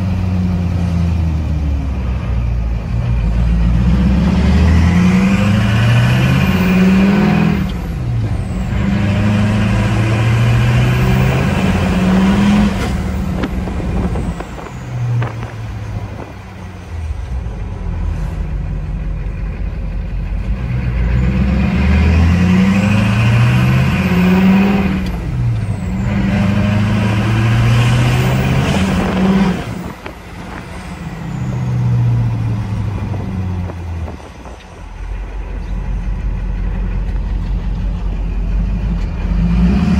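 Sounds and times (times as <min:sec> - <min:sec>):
diesel truck accelerating through gears: 0:00.0 - 0:39.9.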